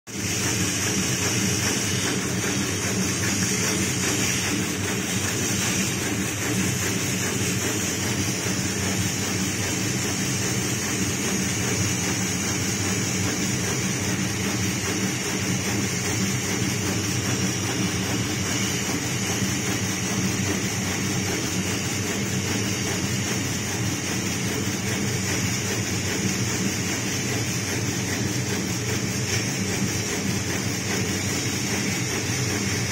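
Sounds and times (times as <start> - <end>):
machine hum: 0.1 - 32.9.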